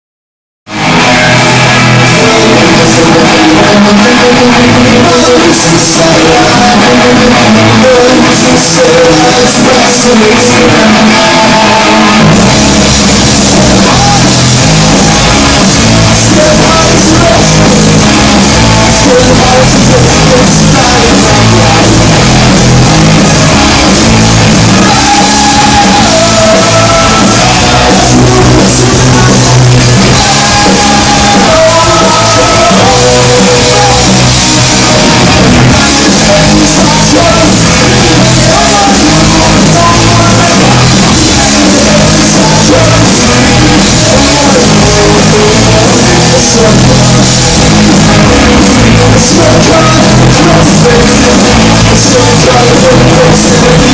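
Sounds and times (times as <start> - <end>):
live rock band playing: 0.7 - 53.9
singer shouting vocals: 0.8 - 53.9.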